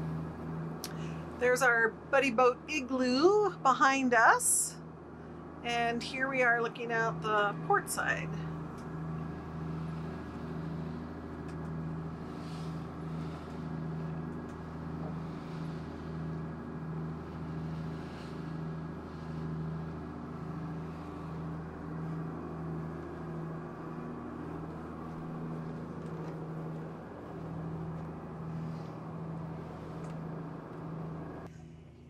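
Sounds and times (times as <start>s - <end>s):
boat diesel engine droning: 0.0s - 31.8s.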